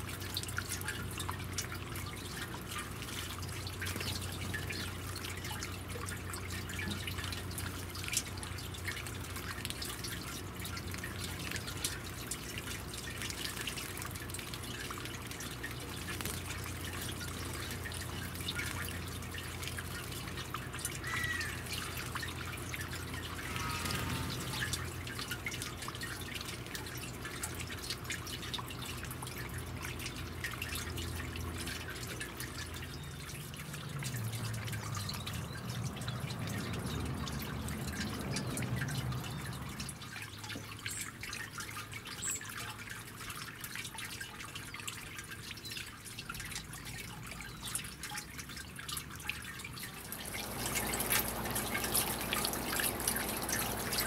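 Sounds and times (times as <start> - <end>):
fountain water trickling and dripping: 0.0 - 54.0
pump humming: 0.0 - 54.0.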